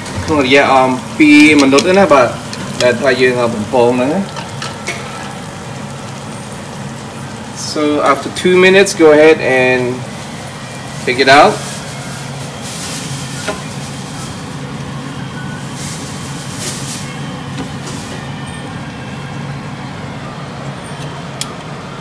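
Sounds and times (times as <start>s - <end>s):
hot oil sizzling: 0.0s - 21.4s.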